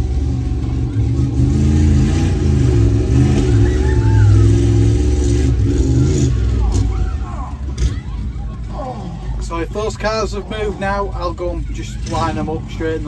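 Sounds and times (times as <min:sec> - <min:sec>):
monster truck engine revving: 0:00.0 - 0:09.2, 0:10.2 - 0:13.0.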